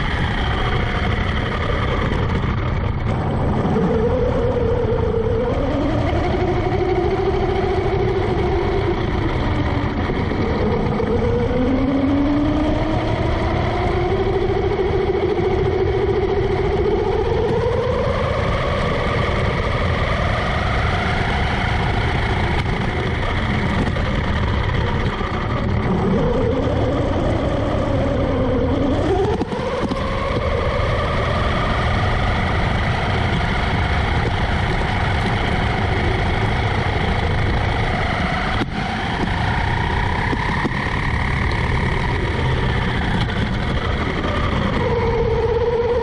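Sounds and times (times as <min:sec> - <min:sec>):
electric motor whine: 0:00.0 - 0:46.0
tyres rolling over rough asphalt: 0:00.0 - 0:46.0.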